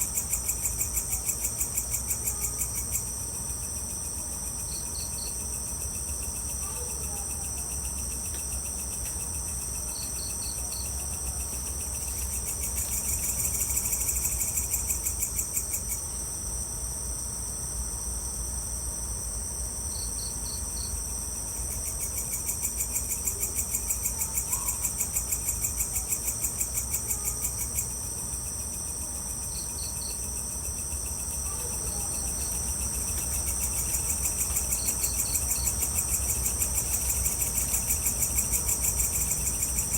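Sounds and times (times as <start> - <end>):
cricket chirps: 0.0 - 39.9
crickets trilling: 0.0 - 39.9
rapidly pulsing insect call: 0.0 - 39.9.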